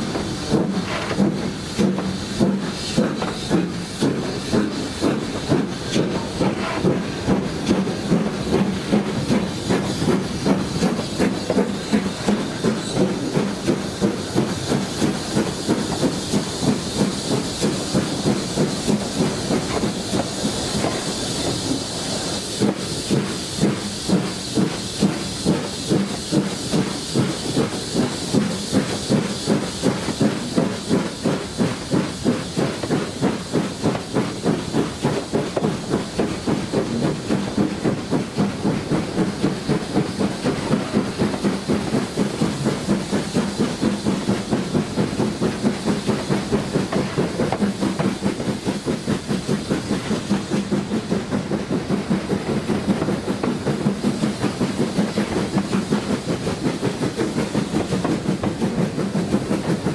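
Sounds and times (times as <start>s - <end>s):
steam hissing: 0.0s - 59.9s
steam locomotive exhaust beats: 0.0s - 59.9s
wheels clattering on rails: 0.0s - 59.9s.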